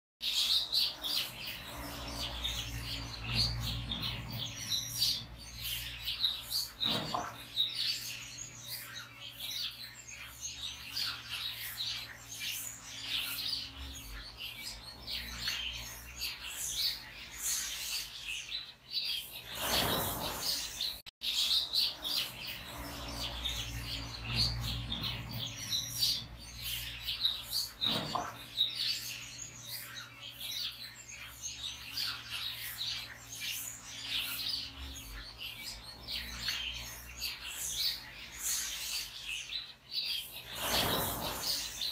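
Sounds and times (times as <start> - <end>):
finches chirping and twittering: 0.2 - 41.9.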